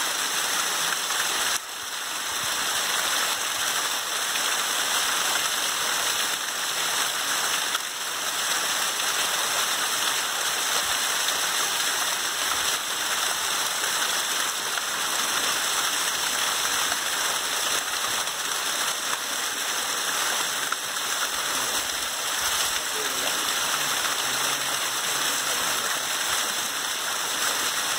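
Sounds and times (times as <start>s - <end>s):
waterfall splashing into pool: 0.0s - 27.9s.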